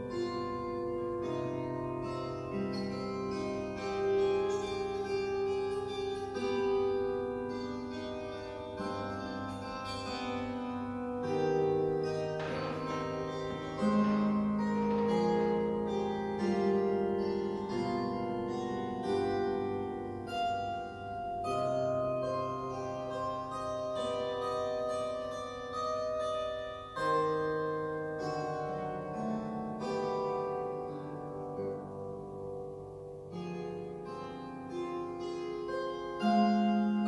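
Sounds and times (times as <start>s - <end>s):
table harp plucked melody: 0.0s - 37.0s.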